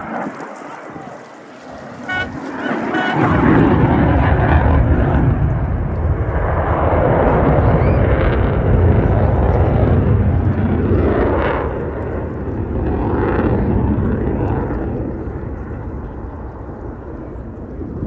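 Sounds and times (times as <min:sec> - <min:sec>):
jet engine roar: 0:00.0 - 0:18.0.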